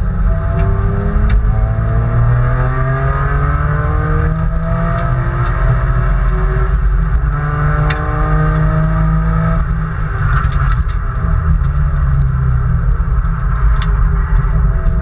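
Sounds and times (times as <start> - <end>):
car engine accelerating hard: 0.0 - 15.0
road rumble: 0.0 - 15.0.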